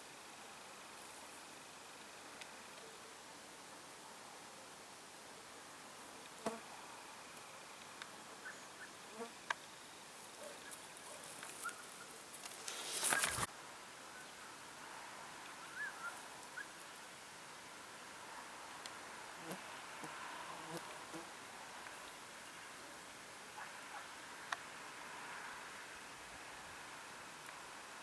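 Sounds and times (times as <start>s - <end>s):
outdoor field ambience: 0.0s - 28.0s
rustle of noise: 0.0s - 28.0s.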